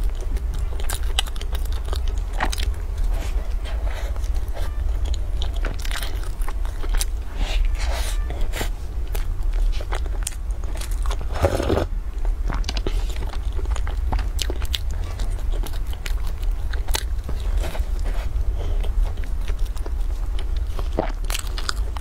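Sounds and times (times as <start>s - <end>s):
wet chewing and biting: 0.0s - 7.8s, 8.4s - 22.0s
low hum: 0.0s - 22.0s.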